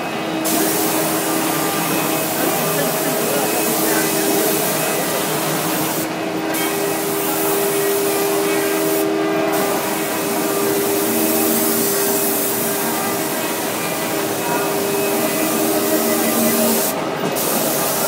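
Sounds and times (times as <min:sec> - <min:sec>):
machine hum: 0:00.0 - 0:18.0
spray gun hissing: 0:00.4 - 0:18.0.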